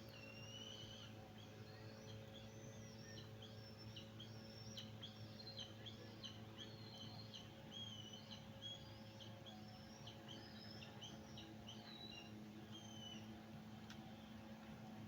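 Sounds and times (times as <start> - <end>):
faint birdsong chirps: 0.0 - 15.0
low steady hum: 0.0 - 15.0.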